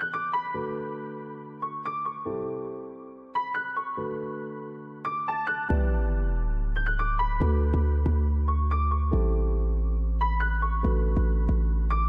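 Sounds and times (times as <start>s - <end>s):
soft keyboard music: 0.0s - 12.0s.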